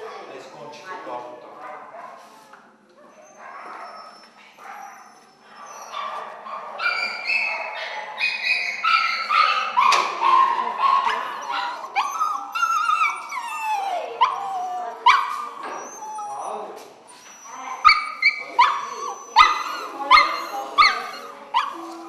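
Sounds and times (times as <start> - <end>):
dogs whining and yelping: 3.0 - 10.0, 11.0 - 22.0.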